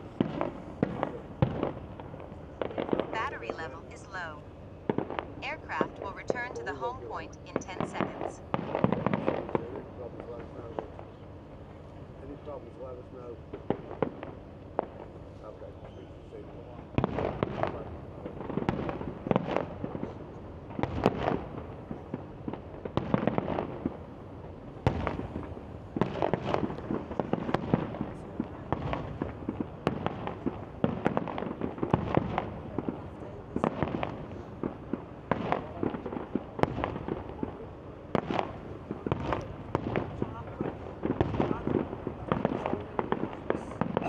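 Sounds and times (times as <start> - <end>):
fireworks bangs: 0.0 - 11.1, 13.5 - 15.1, 17.0 - 44.0
fireworks crackling haze: 0.0 - 44.0.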